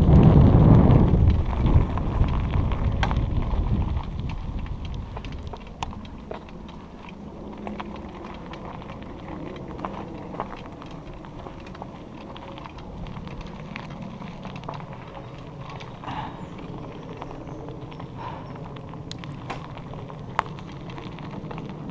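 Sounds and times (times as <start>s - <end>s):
bicycle tyres rolling on rough trail: 0.0s - 21.9s
bike clicking and rattling: 0.0s - 21.9s.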